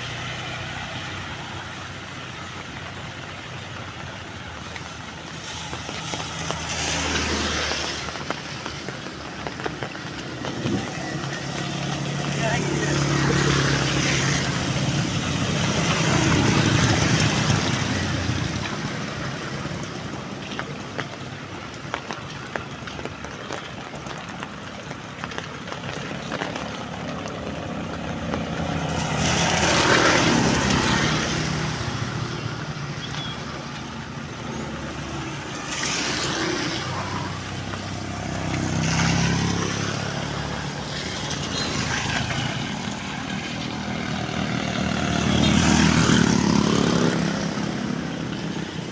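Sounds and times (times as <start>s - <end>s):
heavy rain falling: 0.0s - 48.9s
vehicles passing on wet road: 0.0s - 48.9s.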